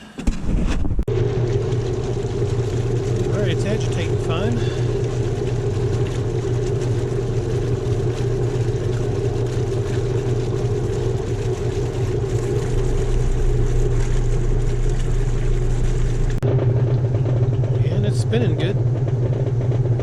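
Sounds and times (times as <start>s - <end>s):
deep washer rumble: 0.0s - 20.0s
washing machine motor hum: 1.0s - 20.0s.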